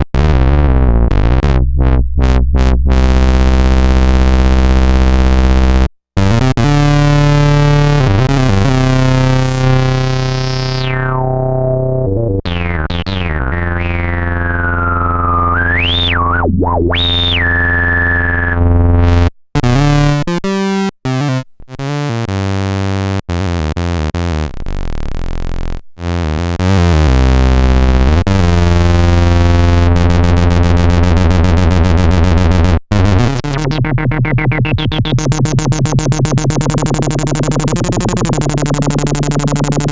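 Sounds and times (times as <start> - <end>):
analog synthesizer low notes: 0.0 - 39.9.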